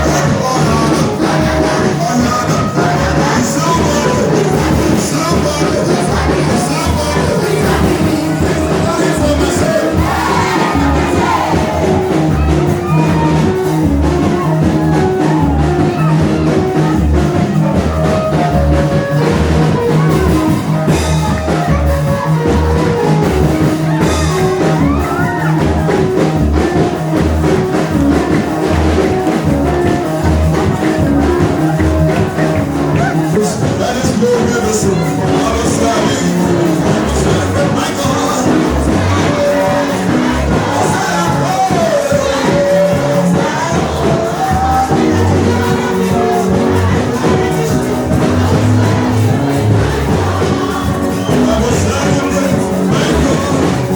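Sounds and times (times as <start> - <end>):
crowd shouting: 0.0 - 53.9
live gospel music with singing: 0.0 - 53.9.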